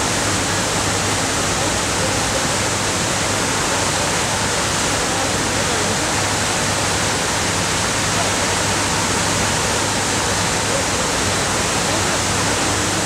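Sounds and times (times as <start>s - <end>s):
waterfall rushing into basin: 0.0s - 13.0s.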